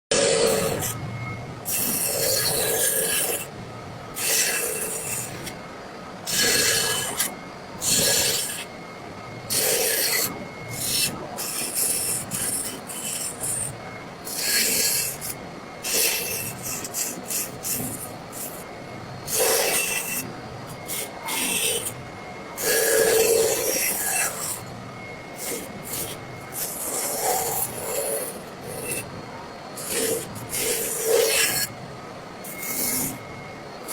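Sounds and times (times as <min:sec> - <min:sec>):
carving tool scraping wood: 0:00.1 - 0:01.0, 0:01.7 - 0:03.5, 0:04.2 - 0:05.6, 0:06.3 - 0:08.7, 0:09.5 - 0:22.0, 0:22.6 - 0:24.7, 0:25.4 - 0:29.1, 0:29.7 - 0:31.7, 0:32.4 - 0:33.2.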